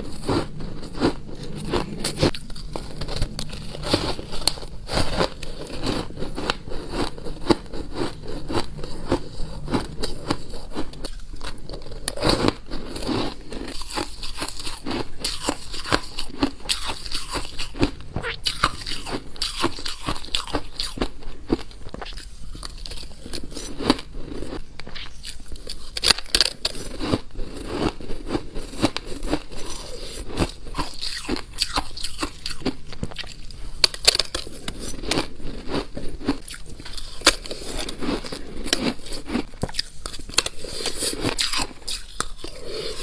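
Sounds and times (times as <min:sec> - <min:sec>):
ice crunching being chewed: 0:00.0 - 0:43.0.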